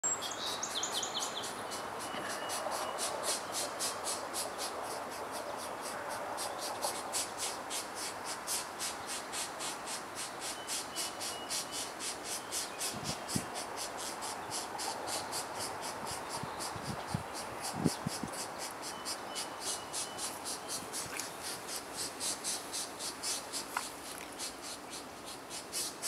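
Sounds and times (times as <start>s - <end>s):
nestlings begging calls: 0.1s - 26.0s.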